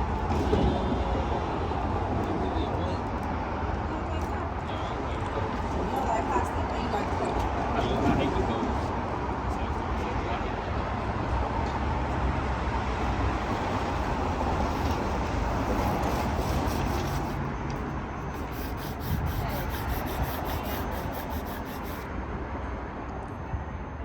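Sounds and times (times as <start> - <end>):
road noise: 0.0 - 23.9.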